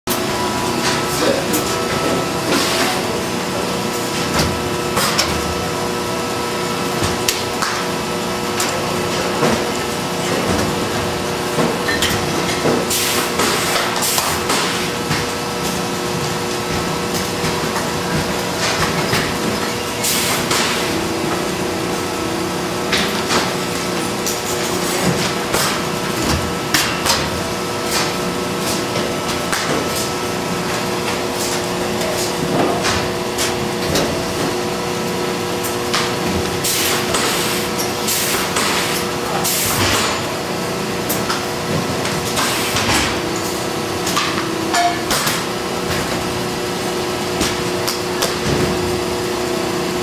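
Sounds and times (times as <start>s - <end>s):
machinery humming: 0.1s - 50.0s.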